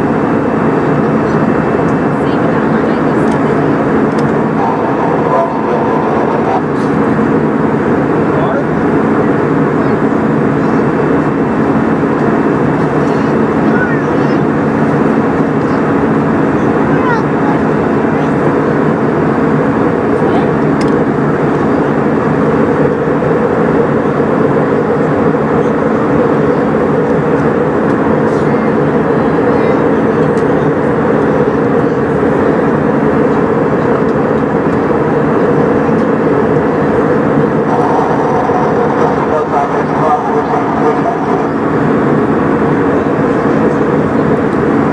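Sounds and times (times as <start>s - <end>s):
airplane cabin engine drone: 0.0s - 44.9s
low steady hum: 0.0s - 44.9s.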